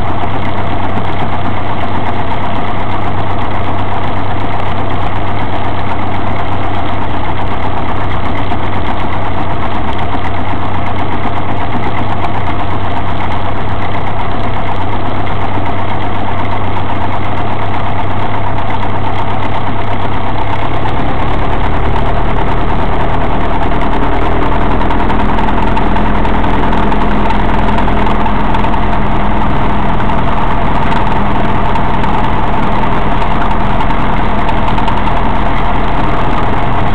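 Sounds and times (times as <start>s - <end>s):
airplane engine and propeller: 0.0s - 36.9s.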